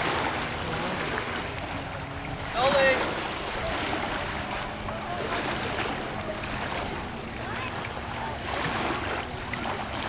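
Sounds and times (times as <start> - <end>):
moving water: 0.0 - 10.0
wind: 0.0 - 10.0.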